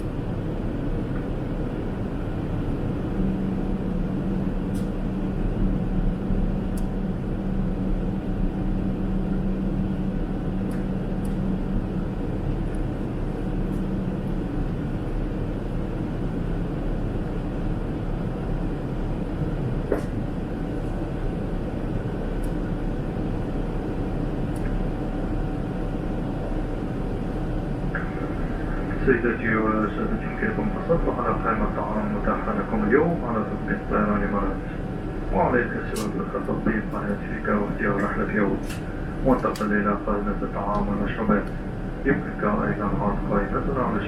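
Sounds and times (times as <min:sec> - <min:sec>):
jet engine drone: 0:00.0 - 0:44.0
low hum: 0:00.0 - 0:44.0.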